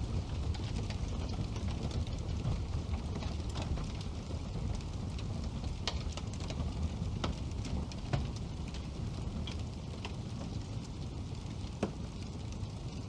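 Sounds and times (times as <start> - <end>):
fire rumbling: 0.0 - 13.0
wood fire crackling and popping: 0.0 - 13.0.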